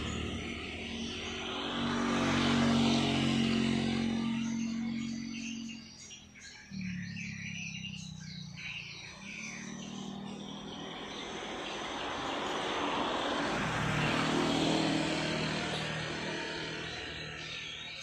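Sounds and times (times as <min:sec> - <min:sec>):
passing engine rumble: 0:00.0 - 0:18.0
small birds chirping: 0:00.0 - 0:18.0.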